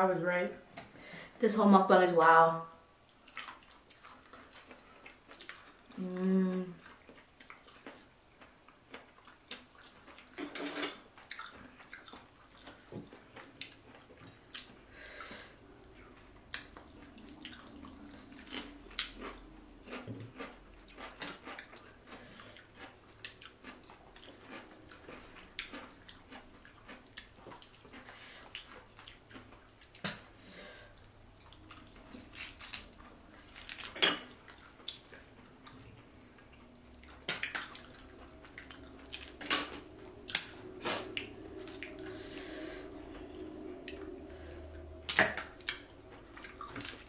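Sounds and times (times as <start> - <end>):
wet chewing and smacking: 2.9 - 6.0, 6.7 - 15.0, 15.6 - 42.2, 42.8 - 47.0.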